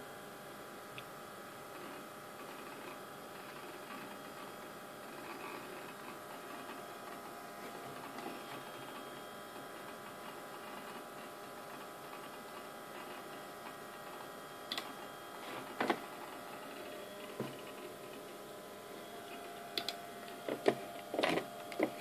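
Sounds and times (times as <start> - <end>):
computer fan whine: 0.0 - 22.0
hard drive ticking: 0.9 - 22.0.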